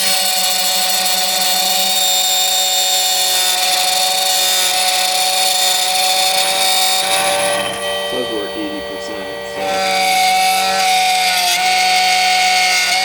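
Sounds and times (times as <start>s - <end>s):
key cutting machine whine: 0.0s - 13.0s.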